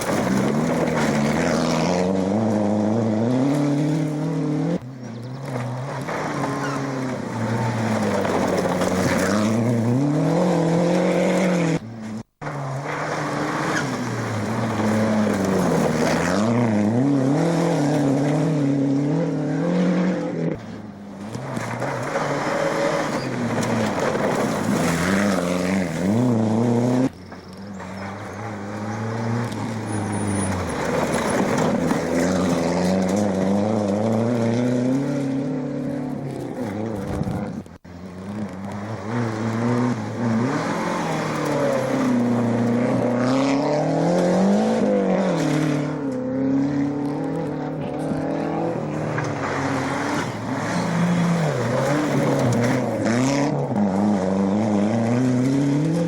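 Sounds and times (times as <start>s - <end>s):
rally cars revving past: 0.0s - 56.0s.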